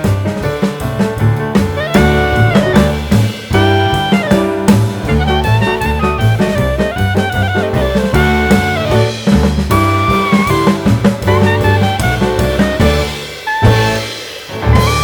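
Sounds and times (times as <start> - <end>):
drum kit beat: 0.0 - 15.0
jazzy instrumental music: 0.0 - 15.0
saxophone-like sliding notes: 1.8 - 15.0.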